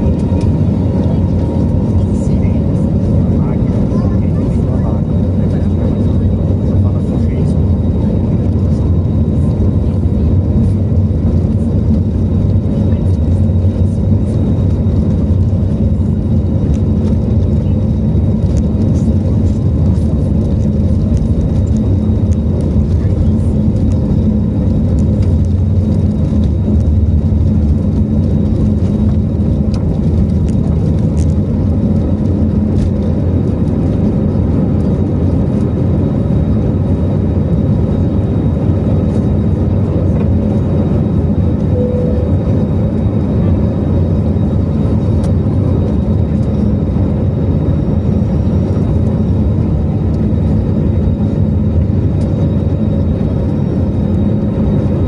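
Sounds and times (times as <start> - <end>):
airliner engines rumbling: 0.0 - 55.0.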